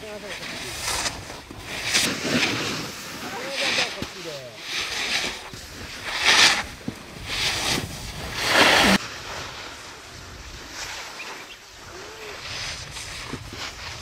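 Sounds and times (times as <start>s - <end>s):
snowboard scraping through snow: 0.0s - 14.0s.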